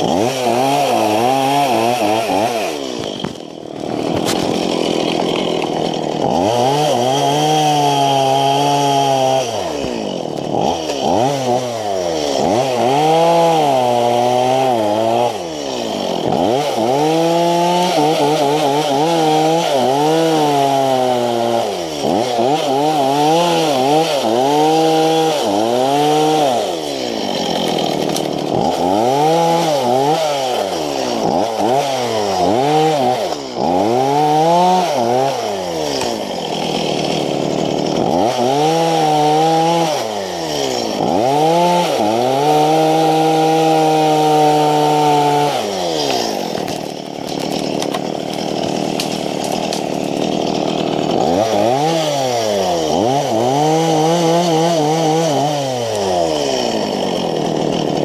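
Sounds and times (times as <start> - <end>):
chainsaw revving: 0.0 - 58.0.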